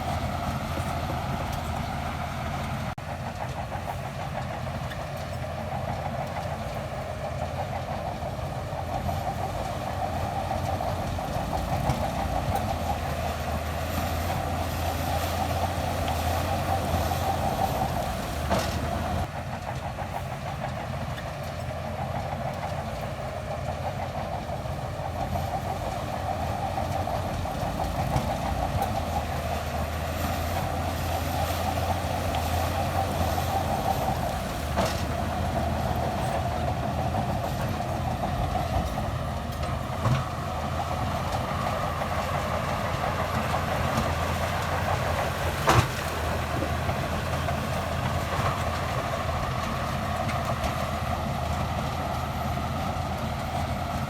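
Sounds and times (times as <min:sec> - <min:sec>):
bulldozer diesel engine under load: 0:00.0 - 0:54.0
tracks clattering: 0:00.0 - 0:54.0.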